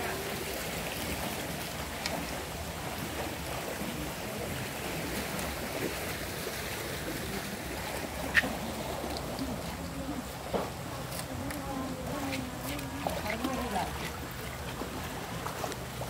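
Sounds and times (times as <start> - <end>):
faint distant voices: 0.0 - 16.0
river water rushing: 0.0 - 16.0.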